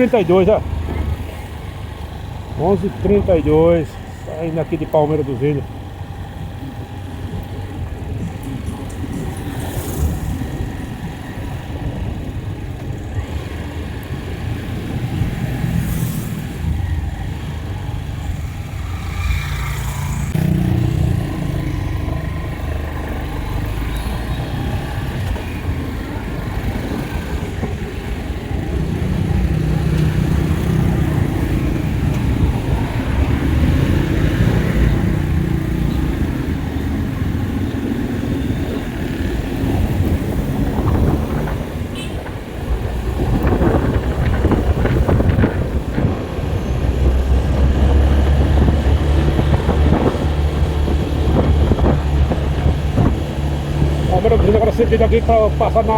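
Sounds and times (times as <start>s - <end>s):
vehicle engine and road noise: 0.0s - 55.9s.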